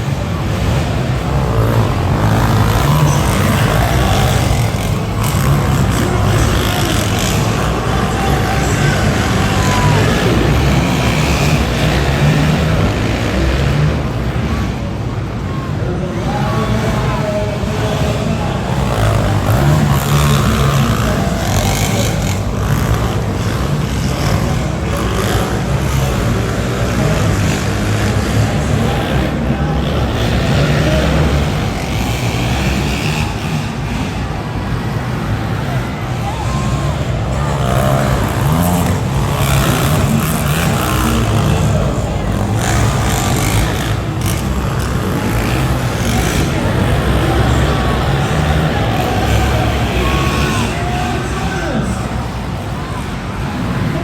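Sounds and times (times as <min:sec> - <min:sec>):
monster truck engine running: 0:00.0 - 0:54.0.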